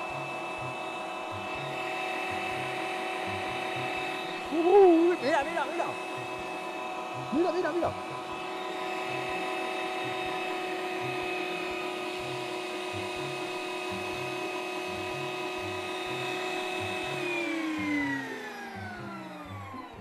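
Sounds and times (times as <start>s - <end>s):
meat grinder motor whining: 0.0s - 20.0s.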